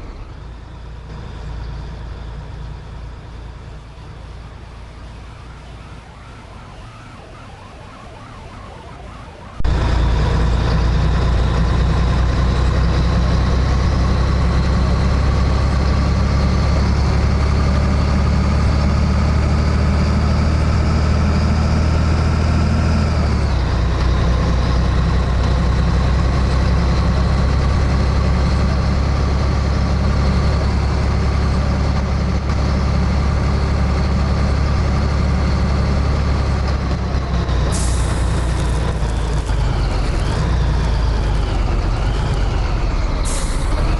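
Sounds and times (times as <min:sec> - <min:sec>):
diesel truck engine under load: 0:00.0 - 0:06.0, 0:09.5 - 0:43.9.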